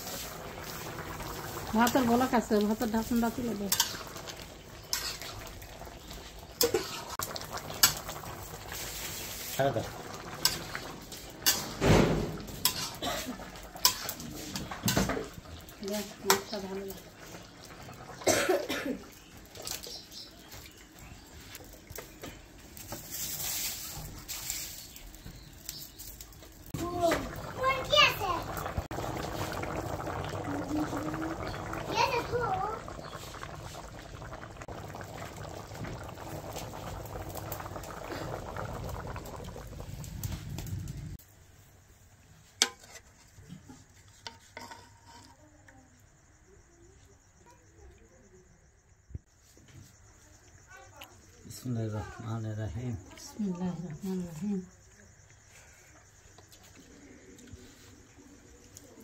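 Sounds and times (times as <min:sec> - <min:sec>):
curry boiling in metal pot: 0:00.0 - 0:47.8.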